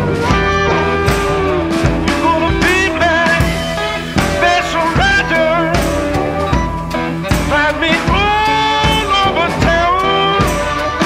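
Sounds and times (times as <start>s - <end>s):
rock music with singing: 0.0s - 11.0s.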